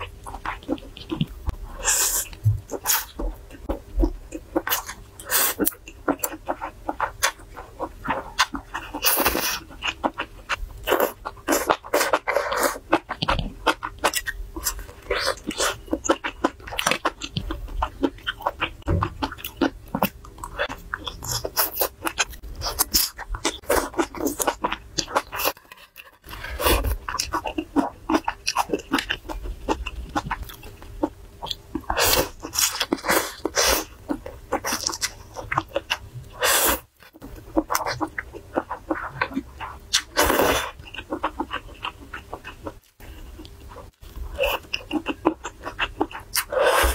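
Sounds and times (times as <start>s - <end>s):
wet chewing: 0.0s - 46.9s.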